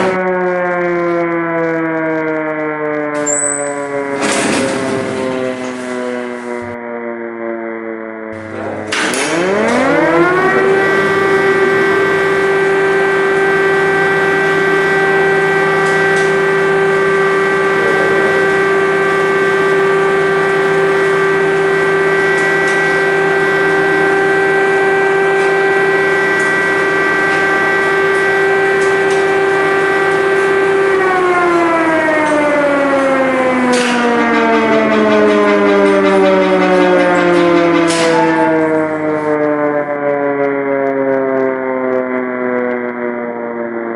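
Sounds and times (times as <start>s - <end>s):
air-raid siren: 0.0s - 43.9s.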